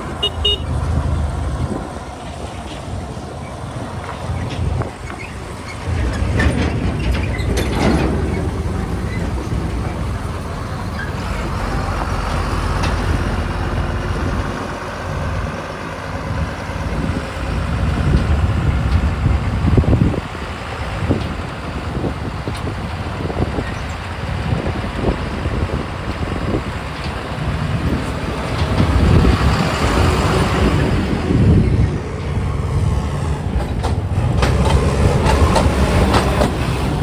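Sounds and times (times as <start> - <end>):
diesel engine rumble: 0.0 - 37.0
road noise: 0.0 - 37.0.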